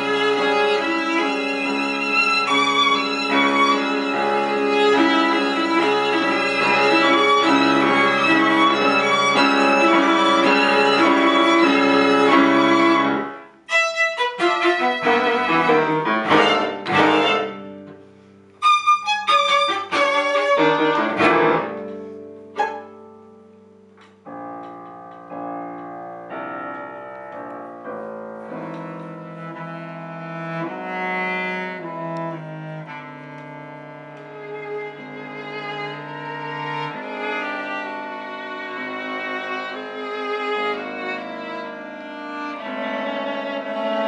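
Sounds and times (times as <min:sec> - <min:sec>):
violin and cello sustained line: 0:00.0 - 0:23.3, 0:28.4 - 0:44.0
piano: 0:00.0 - 0:44.0.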